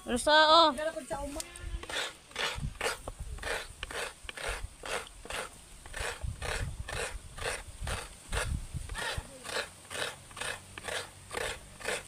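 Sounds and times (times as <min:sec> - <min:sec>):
coconut being grated by hand: 0:01.8 - 0:12.0.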